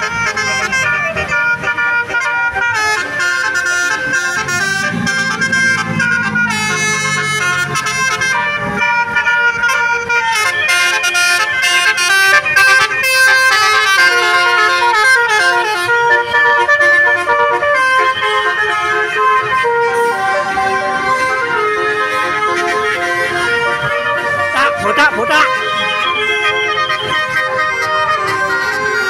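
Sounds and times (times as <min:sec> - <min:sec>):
musical bus horn melody: 0:00.0 - 0:29.0.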